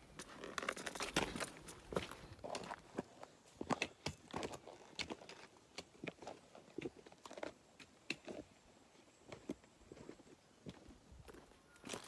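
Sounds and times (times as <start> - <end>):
footsteps on gravel and leaves: 0.0 - 8.6, 9.2 - 12.0.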